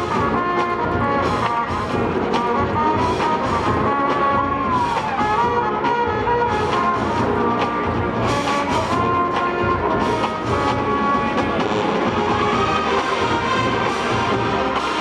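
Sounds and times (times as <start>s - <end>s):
marching band brass playing: 0.0s - 15.0s
steady drum beat: 0.0s - 15.0s.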